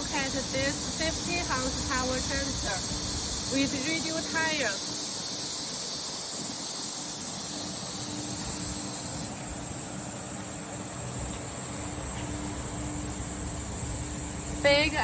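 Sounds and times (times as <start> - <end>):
engine running steadily: 0.0 - 15.0
strong hiss: 0.0 - 15.0.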